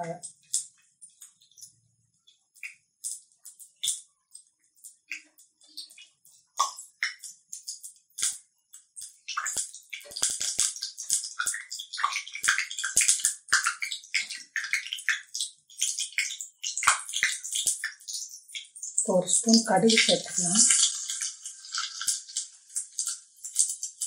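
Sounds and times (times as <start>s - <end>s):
seeds sizzling in hot oil: 0.0s - 24.0s.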